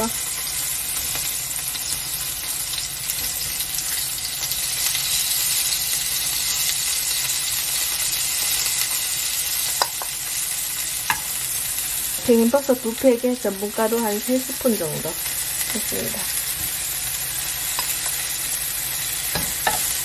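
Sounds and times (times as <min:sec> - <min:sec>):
oil sizzling in frying pan: 0:00.0 - 0:20.0.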